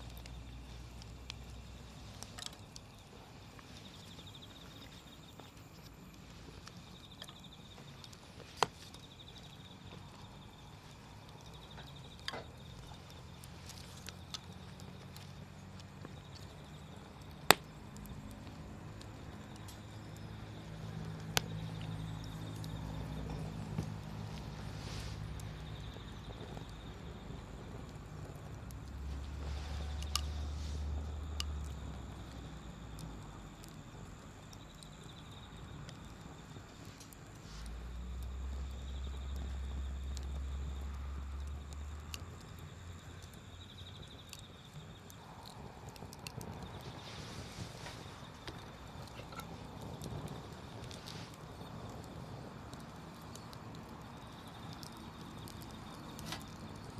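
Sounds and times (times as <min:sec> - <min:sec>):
campfire crackling: 0:00.0 - 0:56.9
sharp pops of fire: 0:00.0 - 0:56.9.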